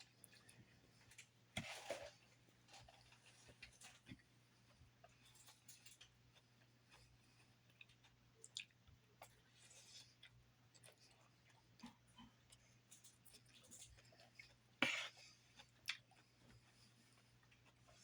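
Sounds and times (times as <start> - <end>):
person chewing salad: 0.0 - 18.0.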